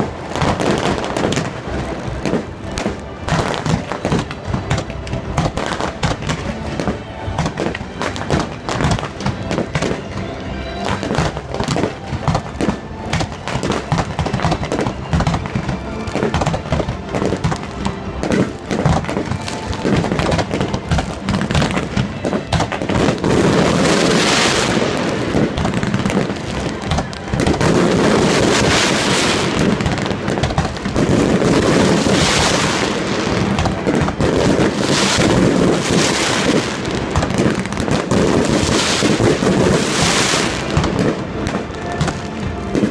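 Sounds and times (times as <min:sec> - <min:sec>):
fireworks popping and crackling: 0:00.0 - 0:42.9
music playing: 0:00.0 - 0:42.9.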